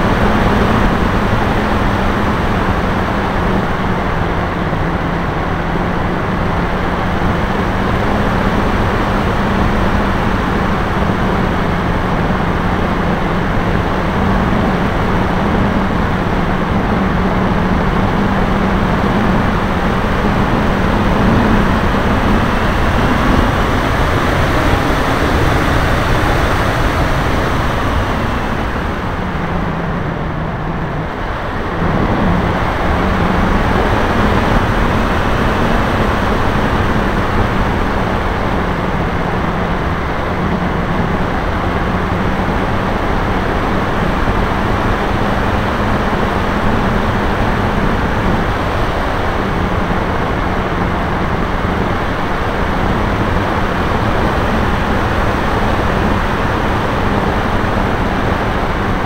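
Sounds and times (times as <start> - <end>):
low motor hum: 0.0 - 59.0
wind rushing over airframe: 0.0 - 59.0.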